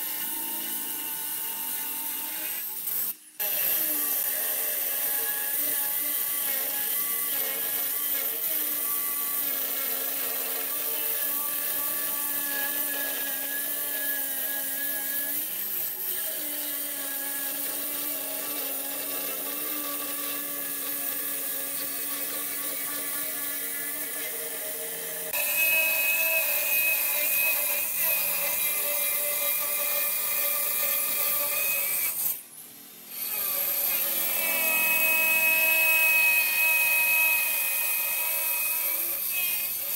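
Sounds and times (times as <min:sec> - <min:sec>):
electric stone cutter grinding: 0:00.0 - 0:32.4, 0:33.1 - 0:39.9.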